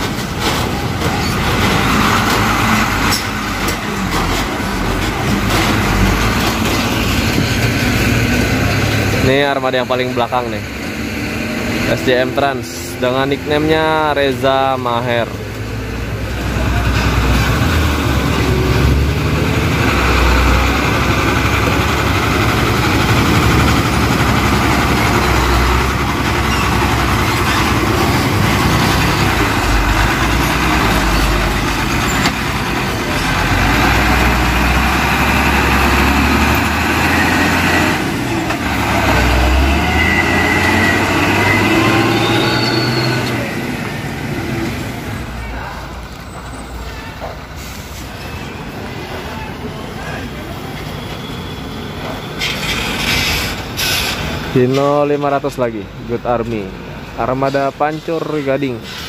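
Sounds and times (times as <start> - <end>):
train wheels rumbling and rattling: 0.0 - 59.0.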